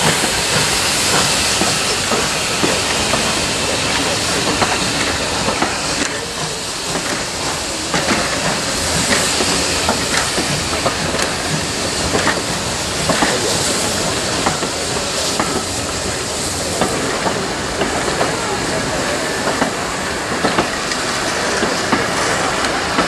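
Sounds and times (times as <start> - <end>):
train wheels rushing on track: 0.0 - 23.0.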